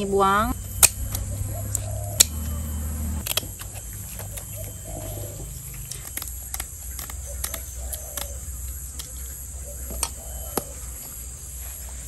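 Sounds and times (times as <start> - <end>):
bird cooing faintly: 1.0 - 3.2, 3.8 - 11.4.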